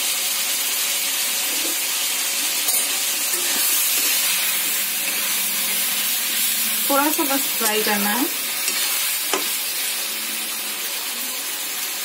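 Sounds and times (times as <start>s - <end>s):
chicken and onions sizzling in oil: 0.0s - 12.0s.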